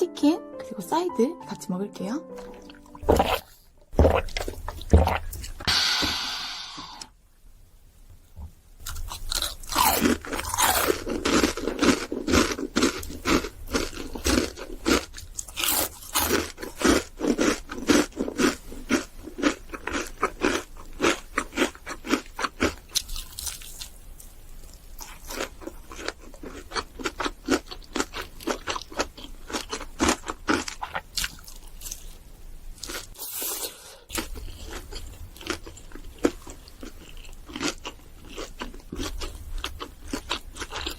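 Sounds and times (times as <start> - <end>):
crunching bites and chewing: 3.0 - 5.9, 8.8 - 32.2, 32.8 - 40.9.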